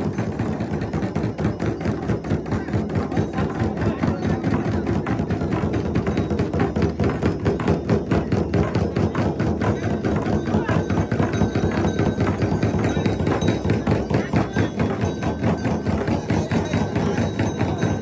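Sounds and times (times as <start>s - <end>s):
drum beaten in fast rhythm: 0.0s - 18.0s.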